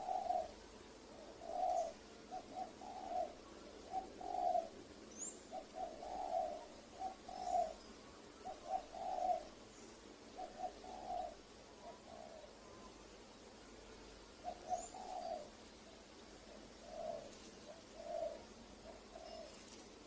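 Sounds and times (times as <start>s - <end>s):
dove cooing: 0.0s - 13.0s, 14.3s - 20.0s
small birds chirping: 0.0s - 20.0s.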